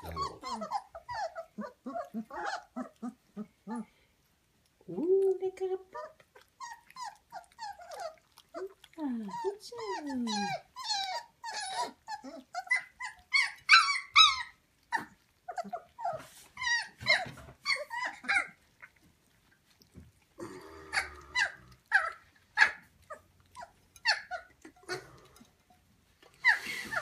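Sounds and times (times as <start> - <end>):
puppies squealing and whining: 0.0 - 4.0, 5.9 - 18.7, 20.8 - 25.6, 26.3 - 27.0
puppies growling: 0.0 - 5.2, 5.8 - 27.0.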